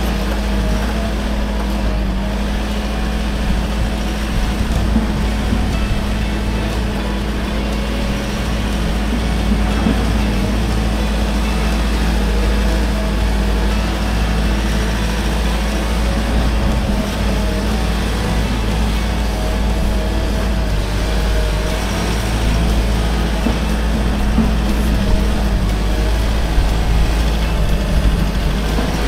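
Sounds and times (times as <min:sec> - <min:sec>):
excavator diesel engine rumbling: 0:00.0 - 0:29.0.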